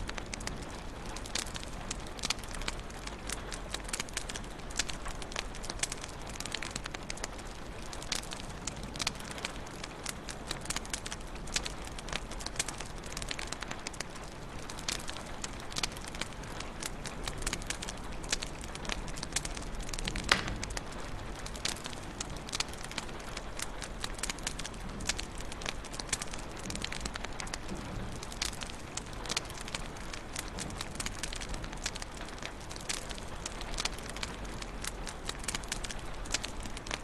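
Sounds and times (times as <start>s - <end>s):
soft steady hiss: 0.0s - 37.0s
wood fire crackling: 0.0s - 37.0s.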